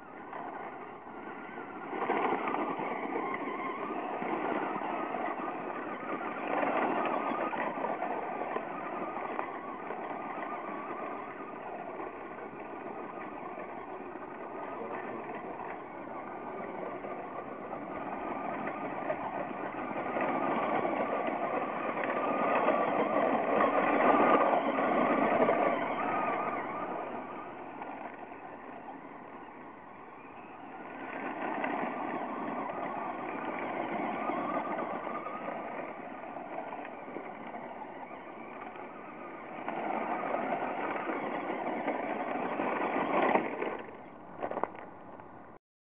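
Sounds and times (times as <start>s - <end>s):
toy truck driving over gravel: 0.0s - 45.6s.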